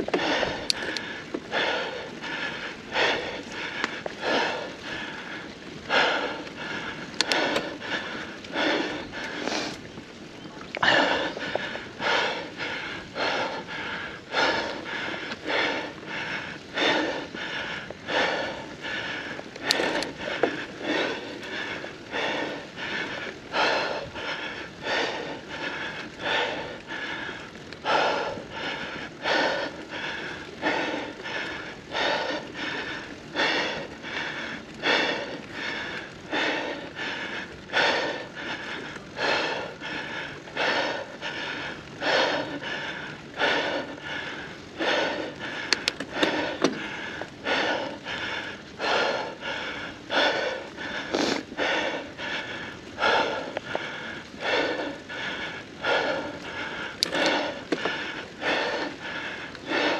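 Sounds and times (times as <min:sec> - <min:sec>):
heavy rhythmic breathing: 0:00.0 - 0:59.9.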